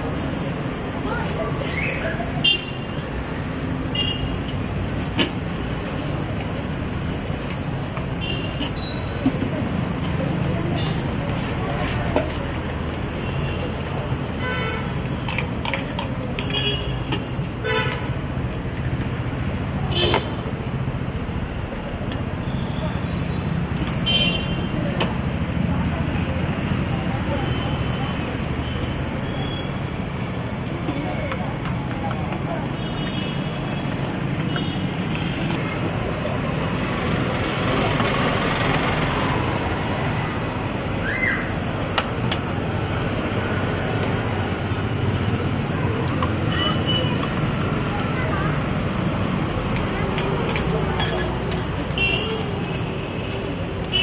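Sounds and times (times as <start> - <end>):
low traffic hum: 0.0 - 54.0
rushing background noise: 0.0 - 54.0.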